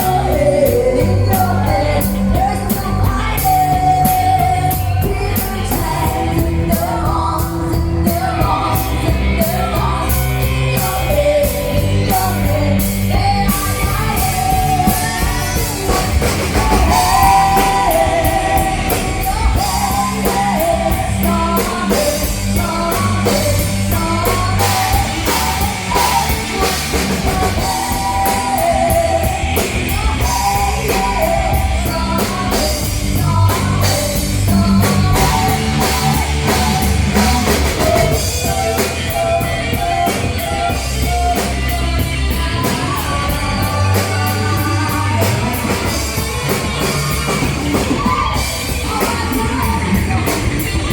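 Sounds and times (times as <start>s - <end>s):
guitar: 0.0s - 50.9s
person singing: 0.0s - 50.9s
rock music drum kit: 0.0s - 50.9s.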